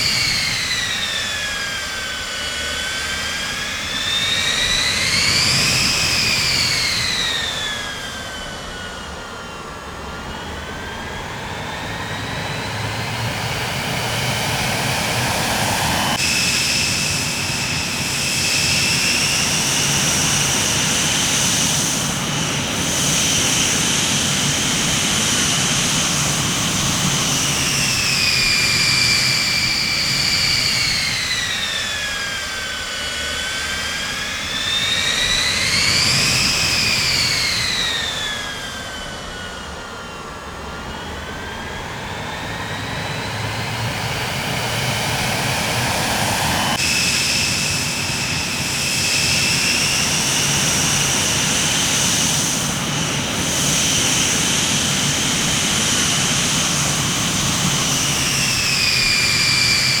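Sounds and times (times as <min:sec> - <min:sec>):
jet engines whining: 0:00.0 - 1:00.0.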